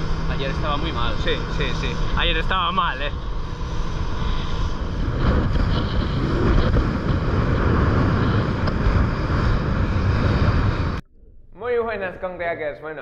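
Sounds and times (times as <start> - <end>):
boat engine: 0.0 - 11.4
wind on microphone: 0.0 - 11.5.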